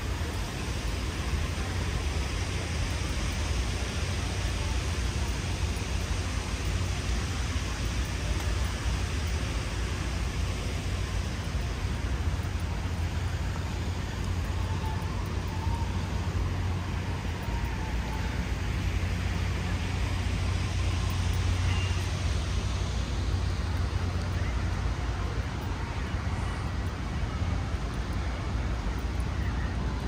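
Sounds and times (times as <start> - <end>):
roadside traffic noise: 0.0 - 30.0.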